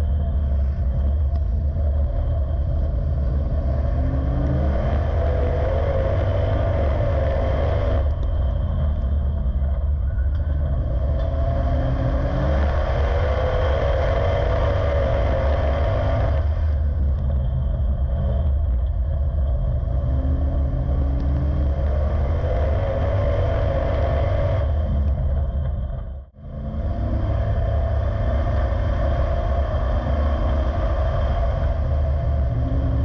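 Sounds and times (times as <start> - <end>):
race car engine revving: 0.0 - 10.0, 10.6 - 25.7, 26.4 - 33.0.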